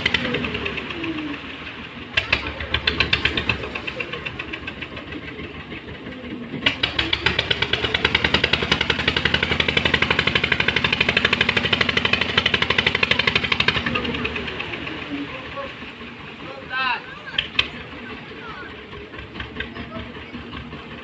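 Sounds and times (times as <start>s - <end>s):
engine knocking: 0.0s - 21.0s.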